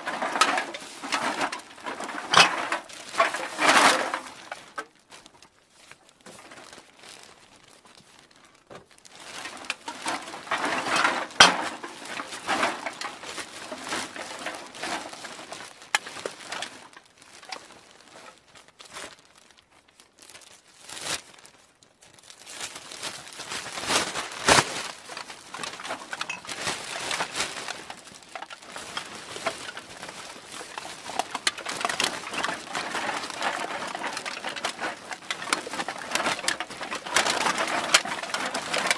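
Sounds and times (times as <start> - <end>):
bag crinkling and rustling: 0.0 - 38.9.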